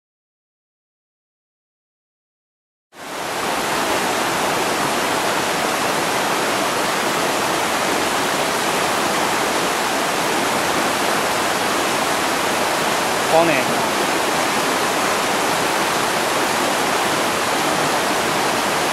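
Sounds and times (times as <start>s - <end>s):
stream rushing over rapids: 3.0s - 18.9s.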